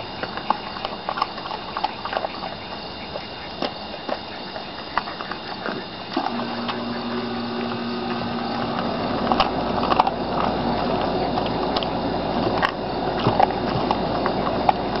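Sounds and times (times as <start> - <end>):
dog crunching bone: 0.0 - 15.0
dog licking: 0.0 - 15.0
low steady hum: 0.0 - 15.0.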